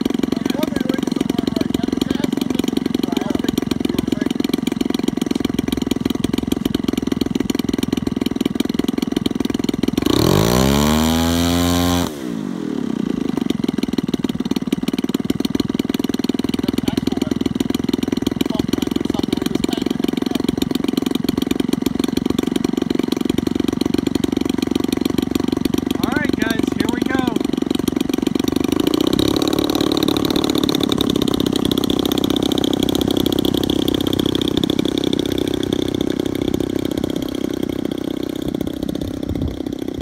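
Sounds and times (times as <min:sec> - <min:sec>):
model airplane engine: 0:00.0 - 0:40.0.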